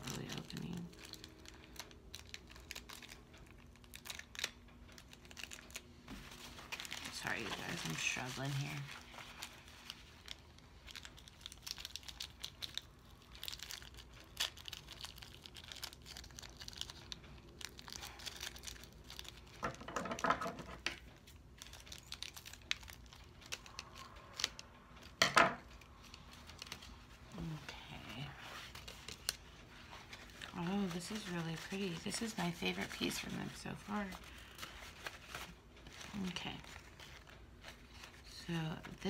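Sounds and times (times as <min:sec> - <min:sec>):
foil and plastic crinkling: 0:00.0 - 0:39.0.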